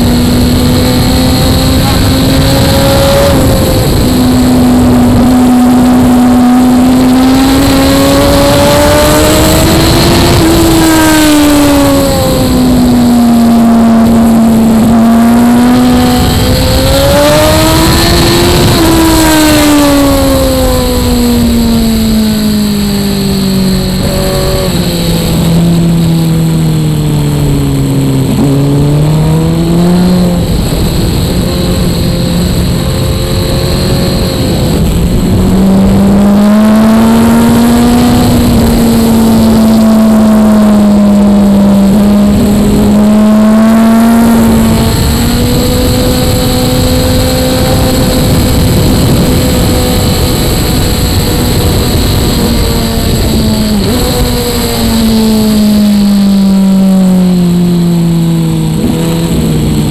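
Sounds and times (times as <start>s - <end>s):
motorcycle engine revving: 0.0s - 59.9s
wind rush: 0.0s - 59.9s.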